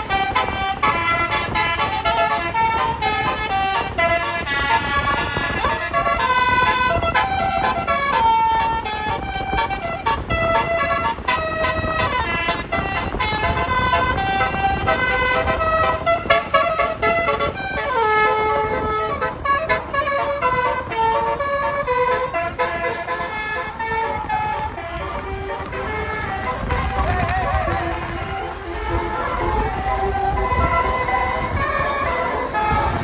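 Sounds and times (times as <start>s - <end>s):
engine and road rumble: 0.0s - 33.0s
multi-tone air horn melody: 0.0s - 33.0s.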